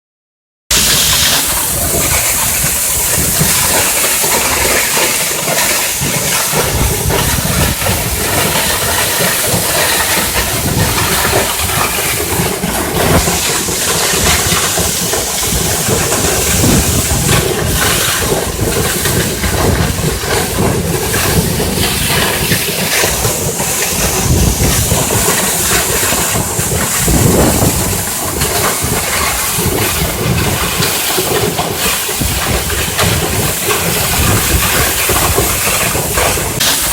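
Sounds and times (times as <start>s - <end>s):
waterfall rushing: 0.7s - 36.9s.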